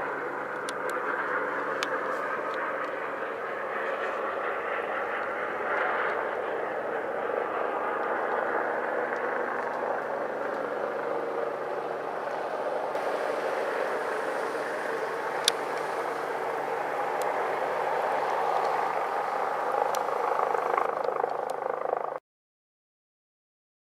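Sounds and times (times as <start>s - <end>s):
helicopter running: 0.0s - 22.2s.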